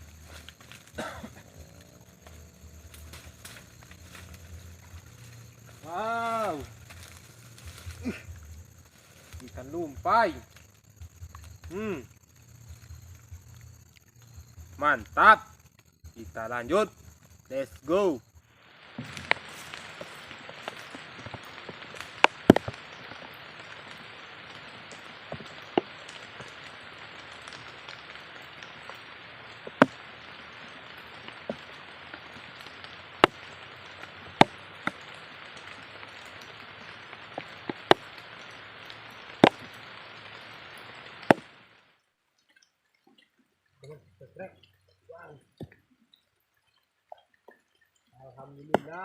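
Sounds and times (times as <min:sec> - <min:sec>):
rain hiss: 0:00.0 - 0:49.0.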